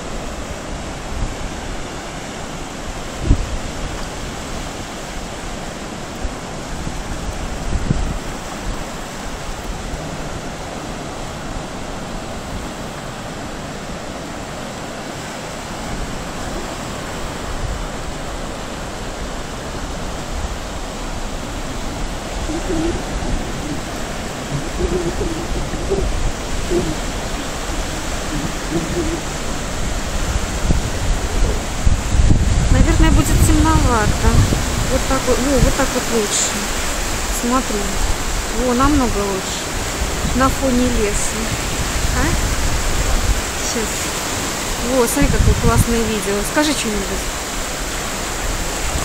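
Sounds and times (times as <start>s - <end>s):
surf washing over rocks: 0.0s - 49.0s.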